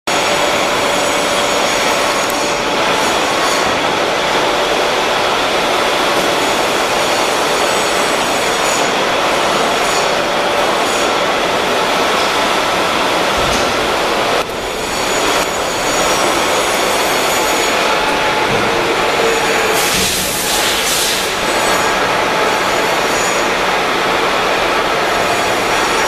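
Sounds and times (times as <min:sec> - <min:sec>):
machine shop hiss: 0:04.7 - 0:26.0.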